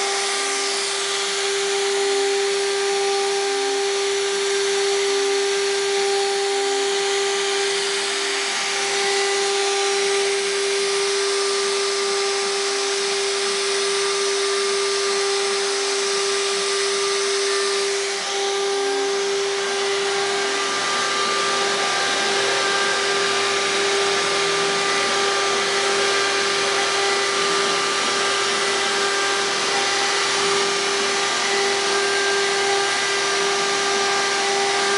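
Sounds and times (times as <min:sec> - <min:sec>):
router spindle whining: 0:00.0 - 0:34.9.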